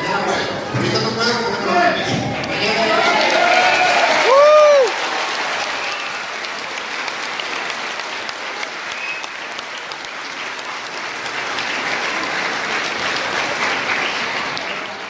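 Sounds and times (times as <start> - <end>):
congregation applauding: 2.4 - 15.0.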